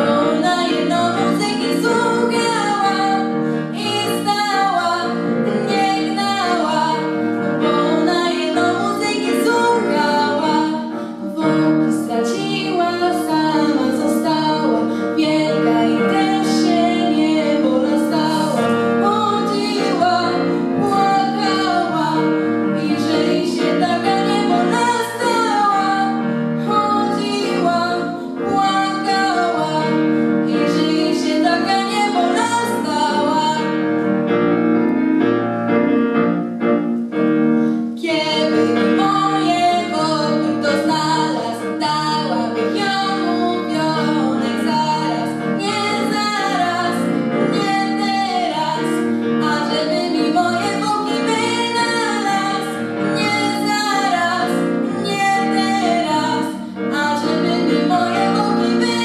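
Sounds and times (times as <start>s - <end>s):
girl singing into a microphone: 0.0s - 33.7s, 38.0s - 59.0s
instrumental accompaniment: 0.0s - 59.0s.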